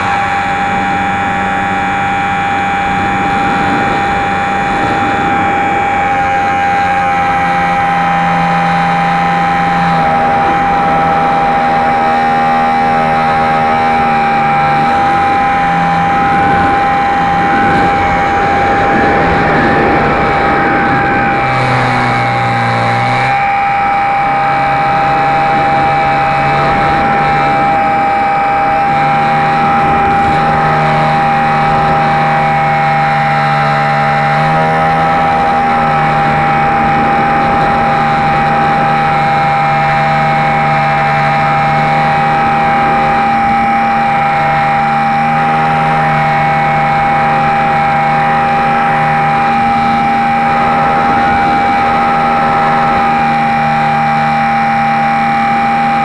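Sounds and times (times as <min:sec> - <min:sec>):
electric motor high whine: 0:00.0 - 0:56.0
propeller drone shifting pitch: 0:00.0 - 0:56.0.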